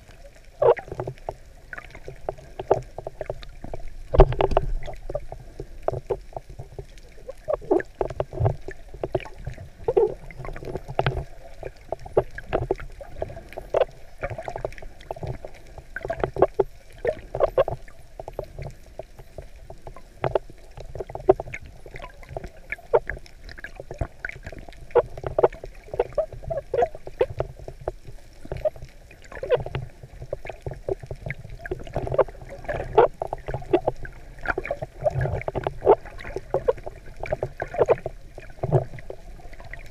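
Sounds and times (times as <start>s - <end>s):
underwater sloshing and bubbling: 0.0s - 39.9s.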